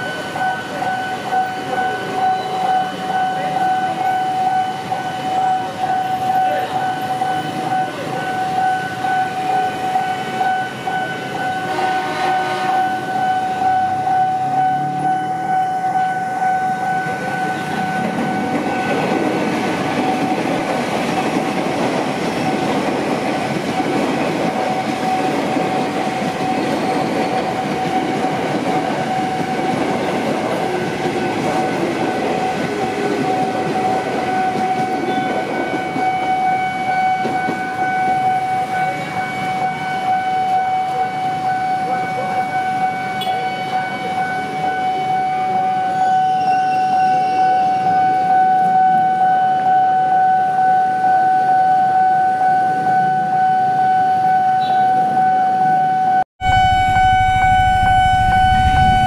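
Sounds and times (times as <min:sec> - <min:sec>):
level-crossing warning alarm: 0:00.0 - 0:59.0.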